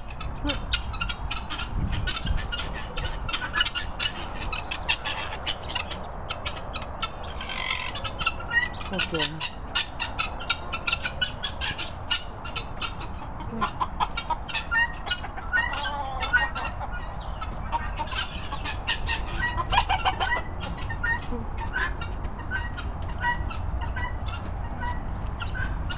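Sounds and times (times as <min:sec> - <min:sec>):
poultry clucking and calling: 0:00.0 - 0:25.9.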